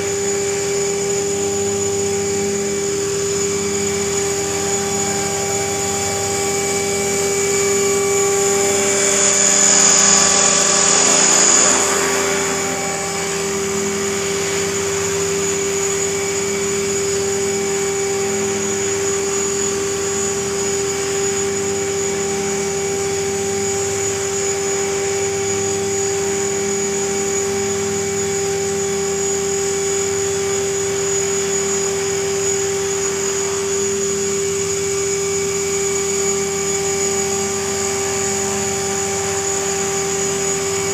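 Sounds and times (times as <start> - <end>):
rc helicopter hovering: 0.0 - 40.9.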